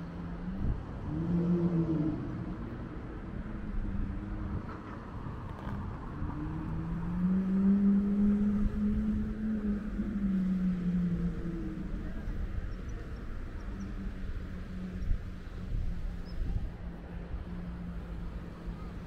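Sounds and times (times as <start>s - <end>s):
cars driving past: 0.0s - 19.0s
vehicle engines pulling away: 3.7s - 19.0s.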